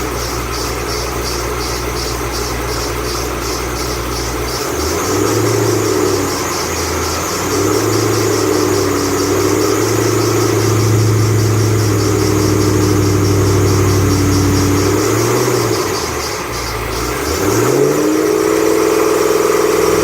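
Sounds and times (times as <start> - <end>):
car engine running: 0.0 - 20.0
high pulsing belt squeal: 0.0 - 20.0.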